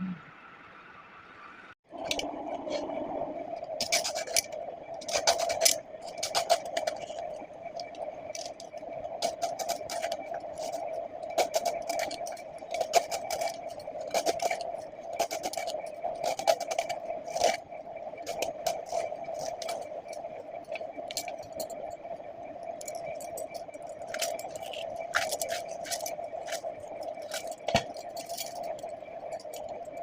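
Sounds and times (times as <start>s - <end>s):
steady hum: 0.0s - 30.0s
kitchen utensils scraping and clicking: 3.7s - 17.6s, 18.2s - 21.8s, 22.8s - 30.0s.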